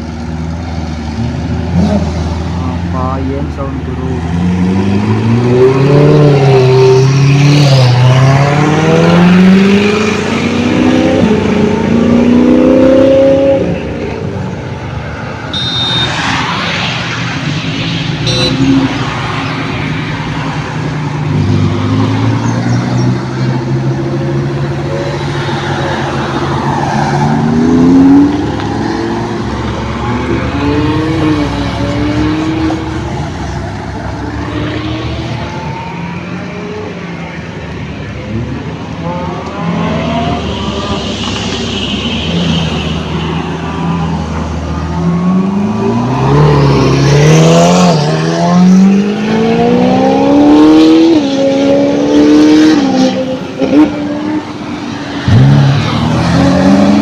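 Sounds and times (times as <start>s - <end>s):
supercar engines revving: 0.0s - 57.0s.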